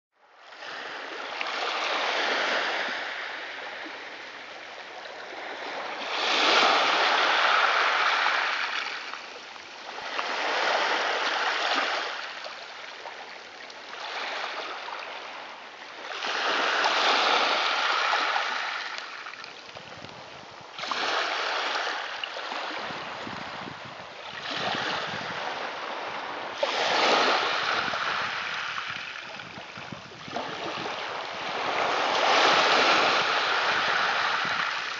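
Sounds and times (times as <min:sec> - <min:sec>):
sea waves breaking: 0:05.1 - 0:34.9.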